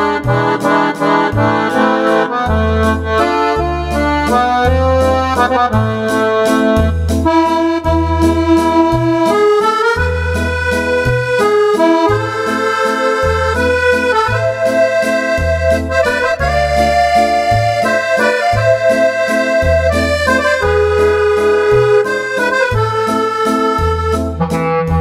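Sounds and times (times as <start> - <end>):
accordion melody with bass and chords: 0.0 - 25.0.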